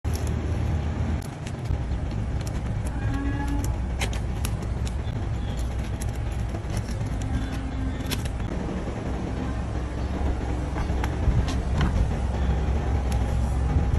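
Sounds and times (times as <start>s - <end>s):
steady low rumble: 0.0s - 13.9s.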